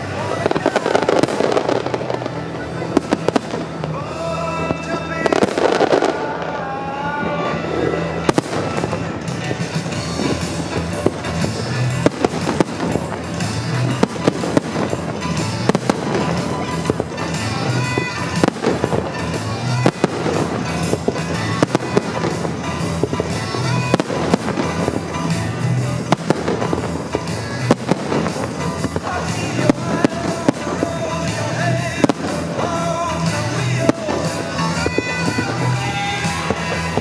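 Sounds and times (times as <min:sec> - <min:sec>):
fireworks bursting bangs: 0:00.0 - 0:37.0
music: 0:00.0 - 0:37.0.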